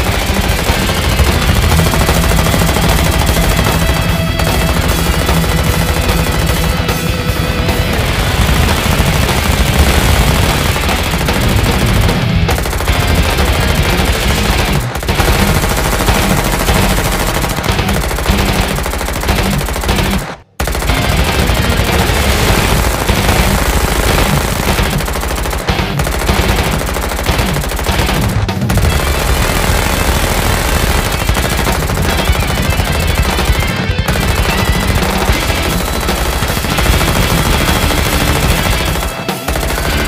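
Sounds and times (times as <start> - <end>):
machine-gun fire: 0.0 - 40.0.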